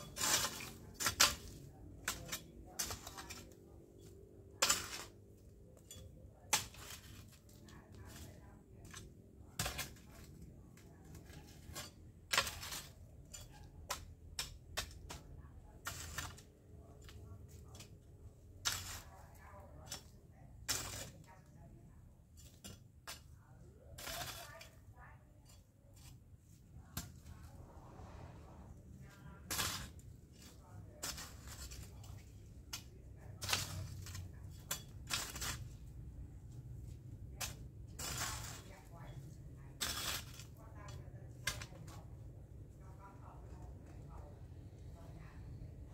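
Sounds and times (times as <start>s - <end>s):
hoe scraping dry soil: 0.0s - 21.6s, 22.4s - 42.0s.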